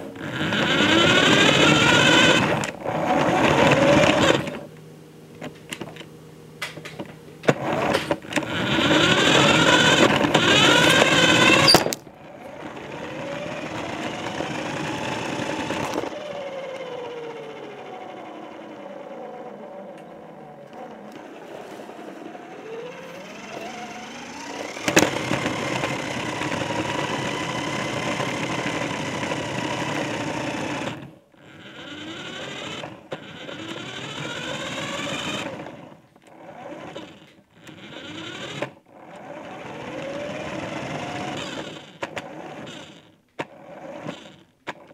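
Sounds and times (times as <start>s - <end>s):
toy car motor whining: 0.2s - 4.7s, 7.5s - 44.9s.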